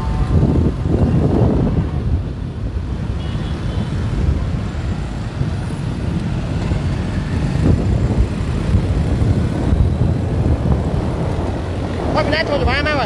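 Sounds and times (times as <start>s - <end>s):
motorbike engines and traffic: 0.0s - 13.0s
wind buffeting microphone: 0.0s - 13.0s.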